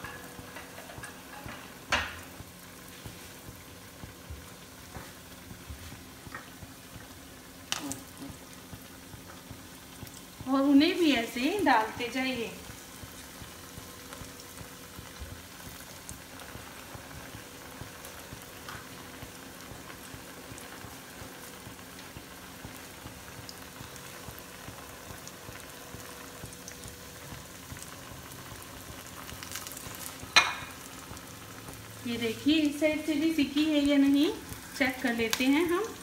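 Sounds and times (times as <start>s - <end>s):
oil bubbling and sizzling: 0.0s - 36.0s.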